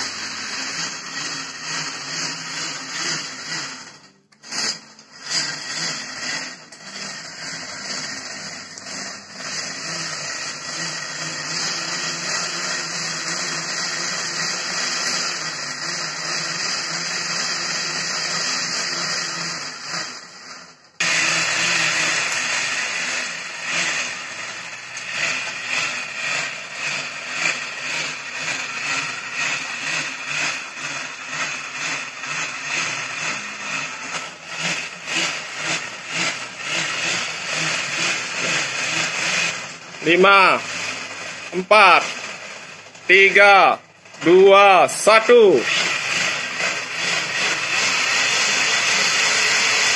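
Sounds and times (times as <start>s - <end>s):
bicycle tyre whirring on roller: 0.0s - 3.9s, 4.5s - 42.0s.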